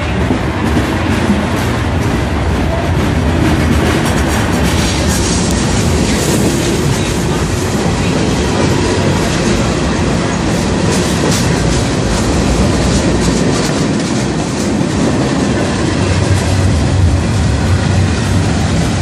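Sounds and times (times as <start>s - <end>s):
steel wheels on rail: 0.0s - 19.0s.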